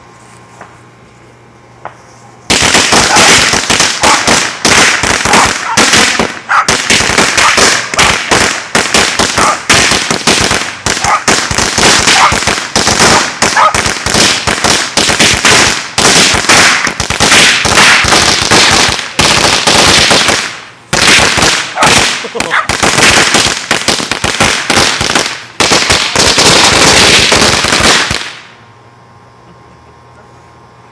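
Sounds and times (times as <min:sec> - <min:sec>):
firecrackers popping: 0:01.8 - 0:28.6.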